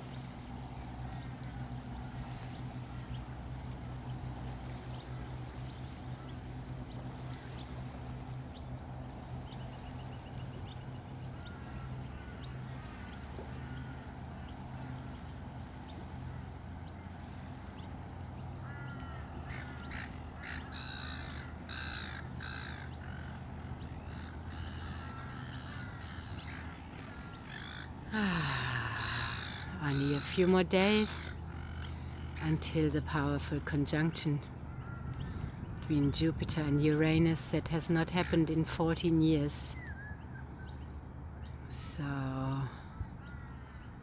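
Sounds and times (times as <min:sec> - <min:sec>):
gulls calling: 0:00.0 - 0:44.0
steady low hum: 0:00.0 - 0:44.0.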